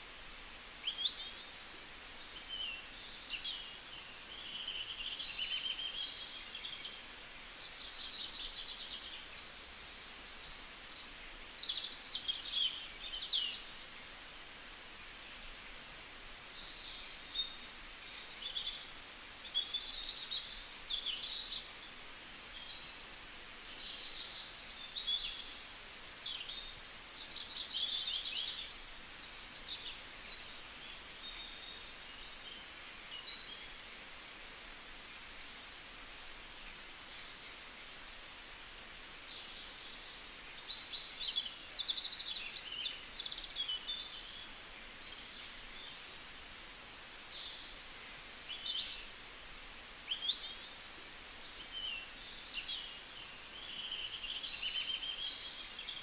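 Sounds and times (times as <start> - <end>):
small birds chirping and twittering: 0.0 - 56.0
steady hiss: 0.0 - 56.0.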